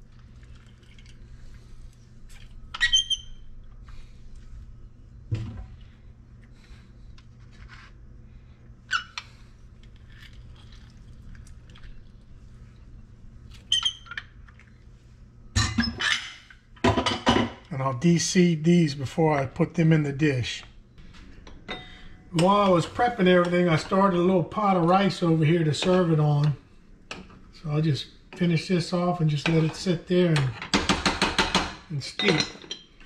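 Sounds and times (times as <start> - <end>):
low steady hum: 0.0 - 30.8.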